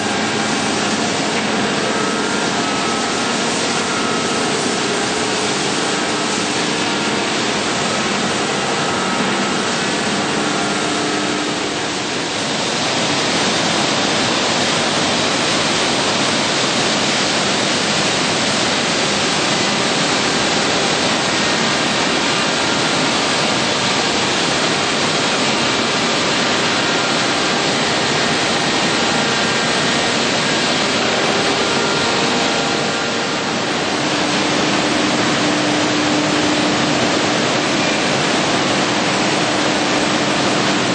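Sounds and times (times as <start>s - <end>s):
sanding machines running: 0.0s - 40.9s.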